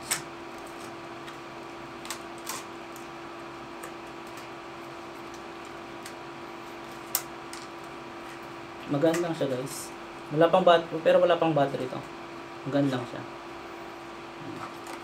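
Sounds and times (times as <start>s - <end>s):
steady room hum: 0.0s - 15.0s.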